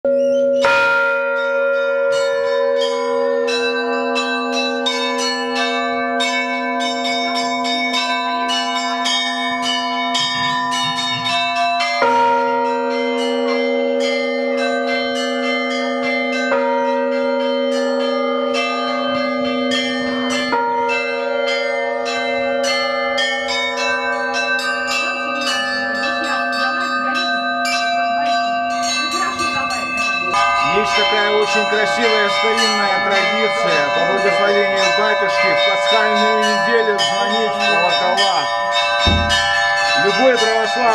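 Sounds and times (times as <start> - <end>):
large bell striking: 0.1 - 40.9
small bells struck rapidly: 0.1 - 40.9.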